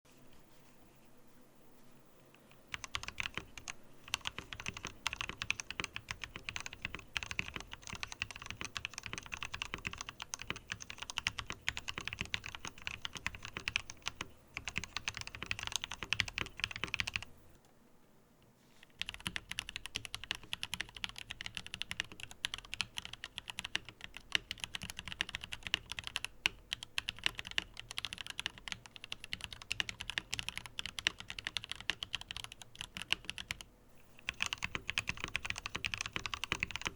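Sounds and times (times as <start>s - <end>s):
mechanical keyboard typing: 2.5s - 17.3s, 18.8s - 36.9s.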